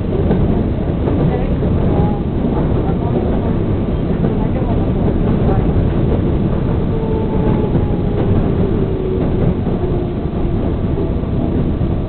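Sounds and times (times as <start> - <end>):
subway wheels rumbling on track: 0.0 - 12.0.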